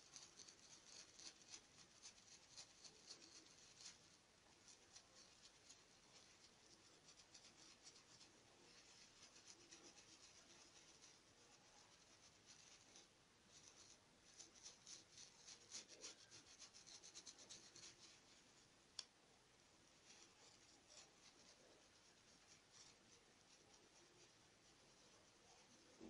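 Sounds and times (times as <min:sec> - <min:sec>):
stencil brush scratching fabric: 0:00.0 - 0:19.1, 0:19.9 - 0:26.0.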